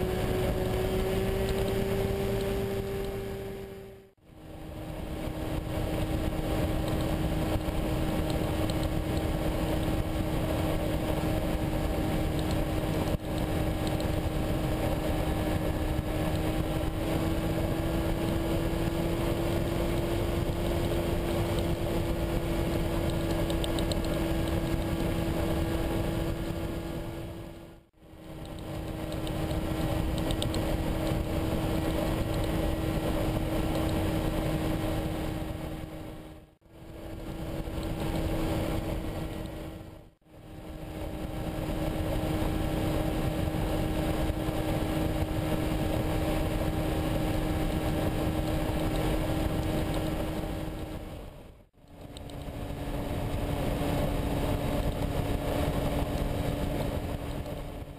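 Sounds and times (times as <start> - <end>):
engine and propeller droning: 0.0 - 57.9.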